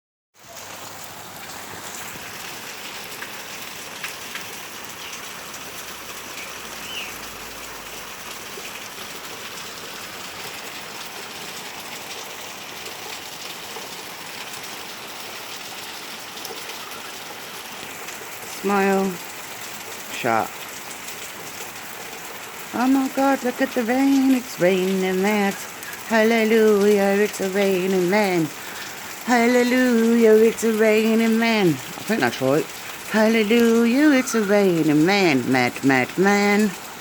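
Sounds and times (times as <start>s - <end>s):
raindrops ticking: 0.4s - 37.0s
steady rain hiss: 0.4s - 37.0s.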